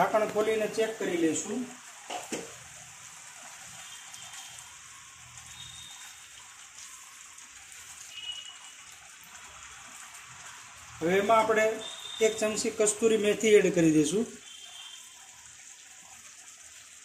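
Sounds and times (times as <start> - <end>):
curry bubbling in a pan: 0.0 - 17.0.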